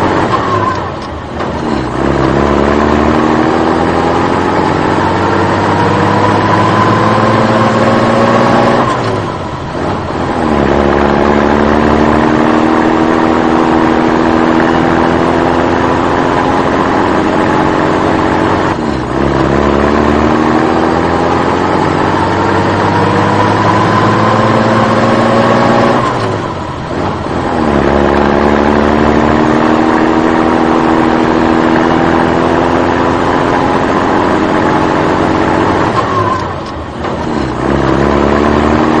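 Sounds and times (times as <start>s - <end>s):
vehicle engine accelerating: 0.0s - 39.0s.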